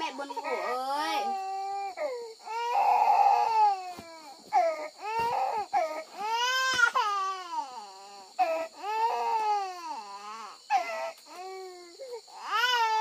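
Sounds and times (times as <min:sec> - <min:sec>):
baby crying: 0:00.0 - 0:13.0.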